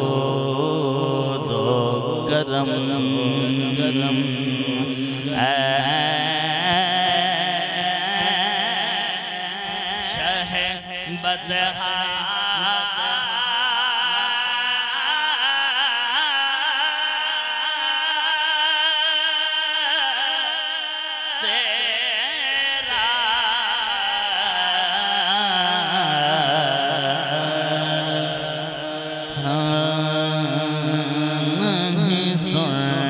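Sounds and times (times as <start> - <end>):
man singing with vibrato: 0.0 - 33.0.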